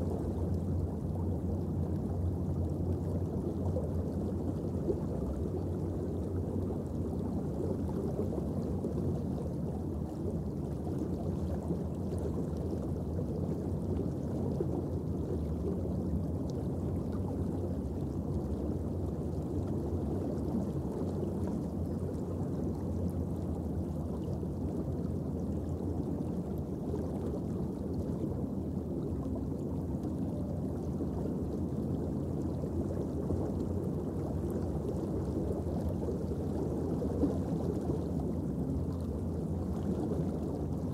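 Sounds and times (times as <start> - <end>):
underwater ambient noise: 0.0 - 40.9.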